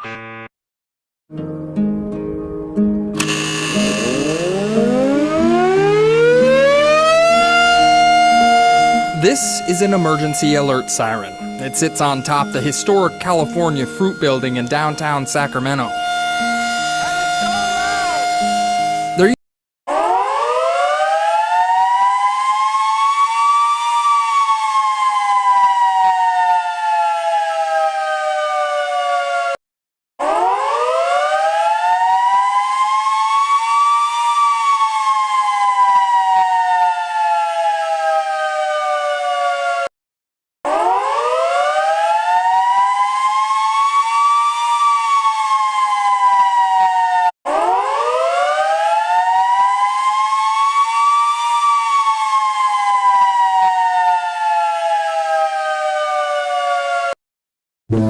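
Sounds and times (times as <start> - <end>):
two-tone warning siren wailing: 0.0 - 0.5, 3.2 - 29.6, 30.2 - 39.9, 40.7 - 57.2.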